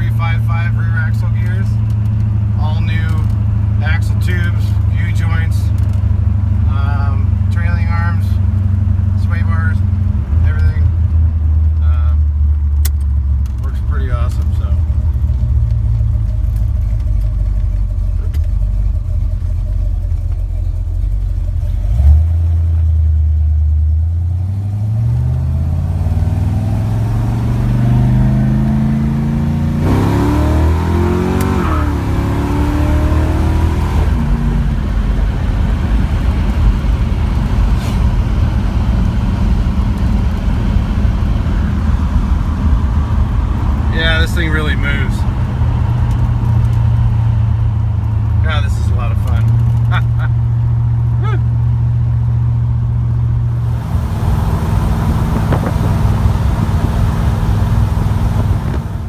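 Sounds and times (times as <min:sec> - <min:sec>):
car engine revving and cruising: 0:00.0 - 0:59.0.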